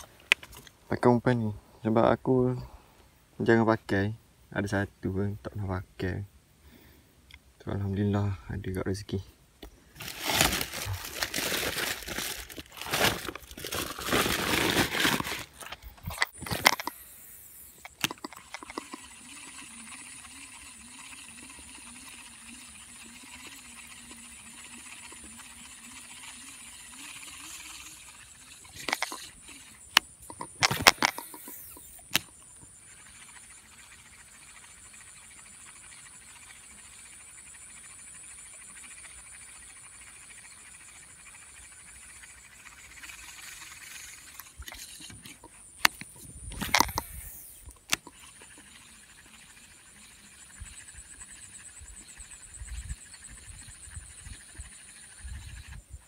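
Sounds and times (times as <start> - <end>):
steady high-pitched hiss: 0.0 - 56.0.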